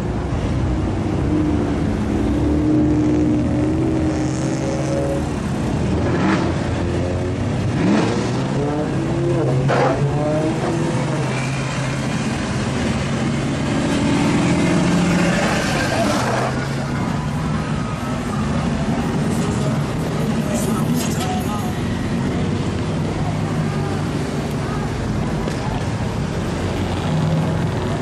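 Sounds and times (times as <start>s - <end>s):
cars revving driving past: 0.3s - 28.0s.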